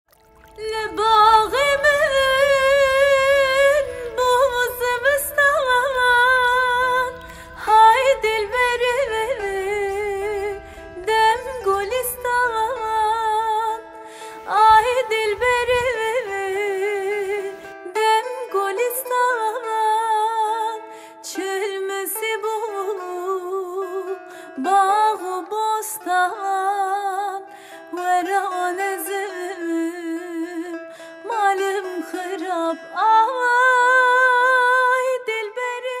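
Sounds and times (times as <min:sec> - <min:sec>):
person singing ornamented melody: 0:00.2 - 0:36.0.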